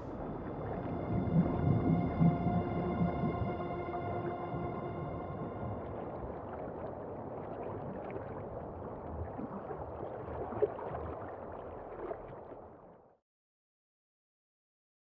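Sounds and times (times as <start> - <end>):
rushing bubbling water: 0.2 - 13.1.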